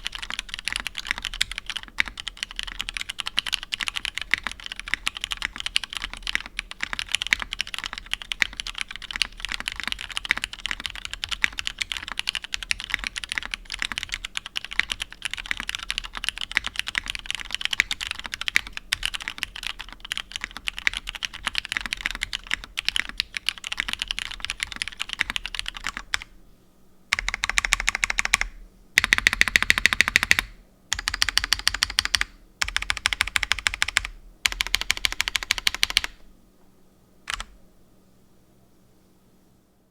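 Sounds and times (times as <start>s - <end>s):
mechanical keyboard typing: 0.0s - 26.3s, 27.1s - 36.2s, 37.3s - 37.6s.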